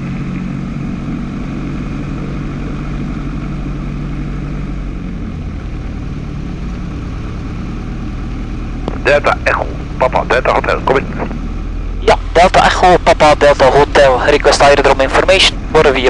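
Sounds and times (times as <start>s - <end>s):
light aircraft engine running: 0.0s - 16.0s.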